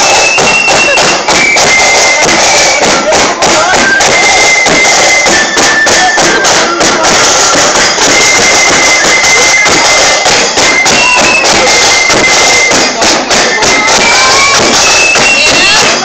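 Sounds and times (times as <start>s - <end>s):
bass drum beating: 0.0s - 16.0s
snare drums rattling: 0.0s - 16.0s
wind instrument melody: 0.0s - 16.0s.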